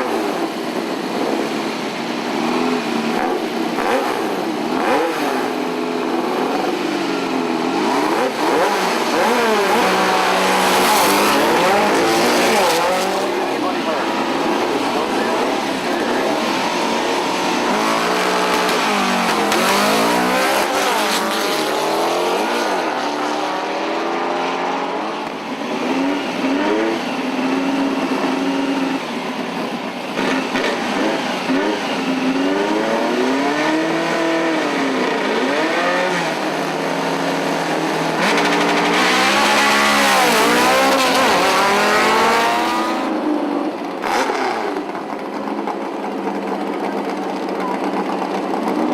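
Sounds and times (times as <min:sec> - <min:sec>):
car engines revving hard: 0:00.0 - 0:48.9.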